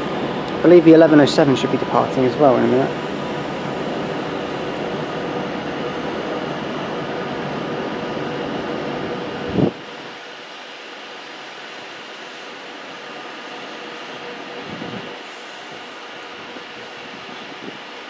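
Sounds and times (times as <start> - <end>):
electric trains humming: 0.0 - 18.0.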